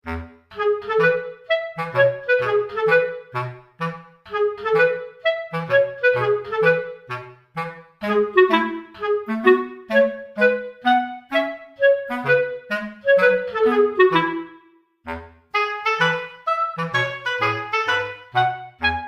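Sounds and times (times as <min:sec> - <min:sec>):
woodwind melody: 0:00.0 - 0:19.0.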